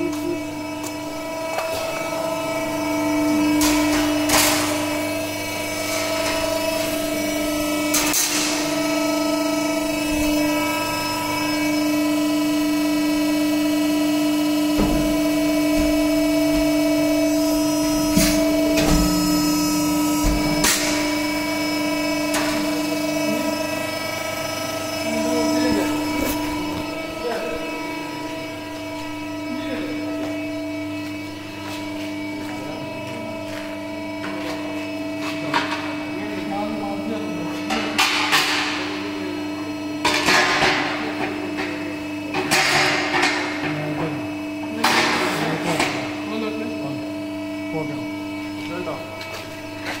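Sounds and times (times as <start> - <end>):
machine hum: 0.0 - 50.0.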